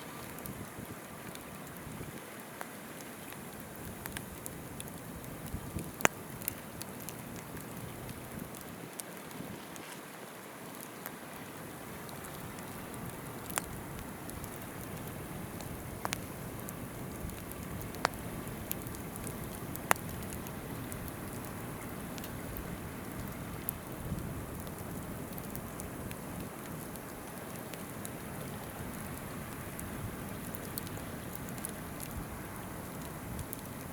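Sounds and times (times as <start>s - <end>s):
campfire crackling: 0.0s - 9.4s, 10.6s - 33.9s.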